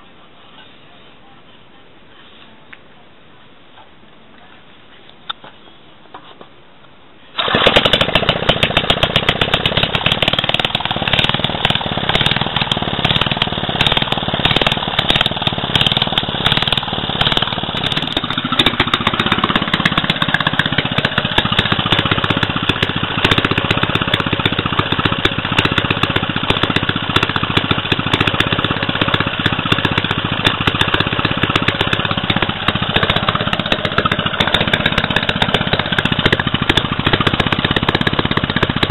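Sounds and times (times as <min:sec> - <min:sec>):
stationary engine running: 0:07.4 - 0:38.9.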